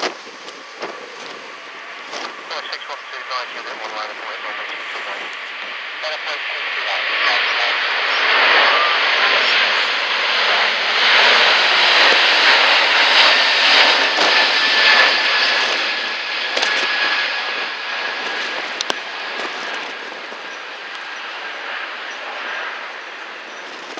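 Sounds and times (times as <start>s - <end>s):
faint steady whine: 0.0s - 23.9s
jet engines roaring: 0.0s - 23.9s.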